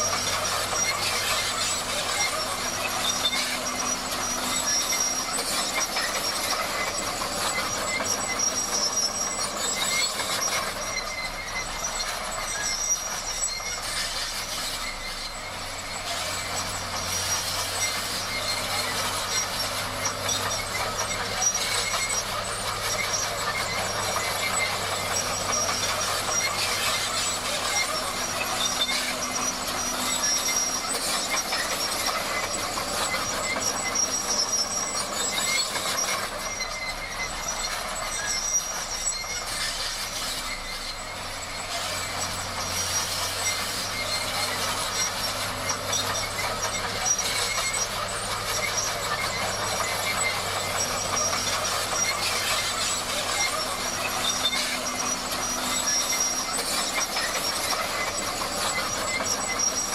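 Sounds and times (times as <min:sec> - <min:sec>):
bulldozer diesel engine running: 0:00.0 - 0:59.9
metallic squeal of steel tracks: 0:00.0 - 0:59.9.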